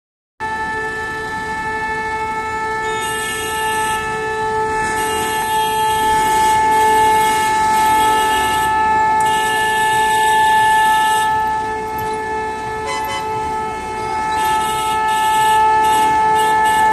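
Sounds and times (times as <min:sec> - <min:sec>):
passing traffic: 0:00.4 - 0:16.9
train horn: 0:00.4 - 0:16.9.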